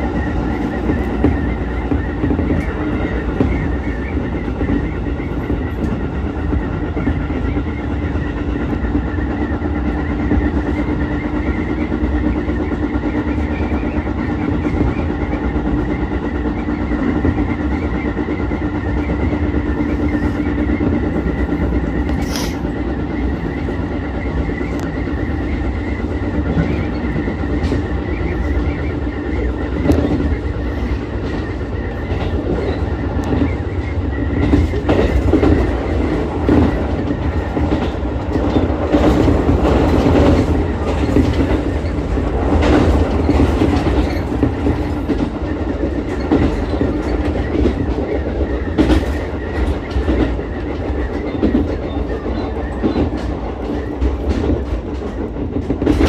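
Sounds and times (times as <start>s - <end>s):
railcar rolling rumble: 0.0s - 56.0s.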